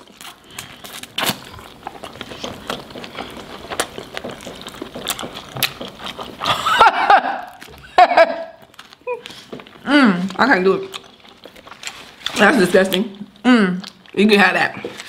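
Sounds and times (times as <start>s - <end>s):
mouth sounds of eating: 0.0s - 6.7s, 8.5s - 15.0s.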